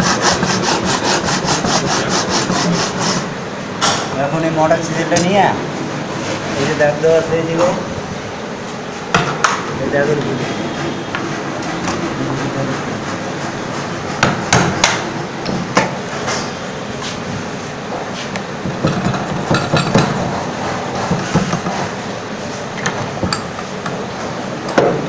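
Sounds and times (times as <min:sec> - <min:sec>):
workshop background noise: 0:00.0 - 0:25.0.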